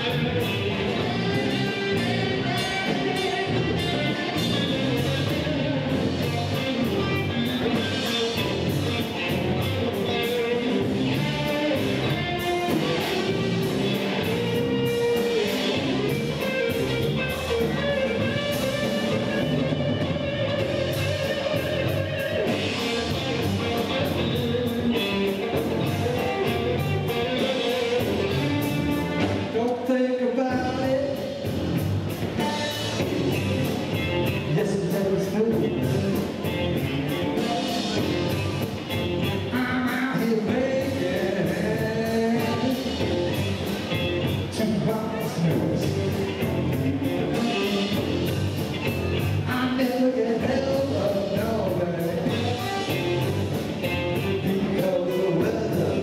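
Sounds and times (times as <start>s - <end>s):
bass guitar: 0.0s - 56.0s
drum kit: 0.0s - 56.0s
electric guitar lead lines: 0.0s - 56.0s.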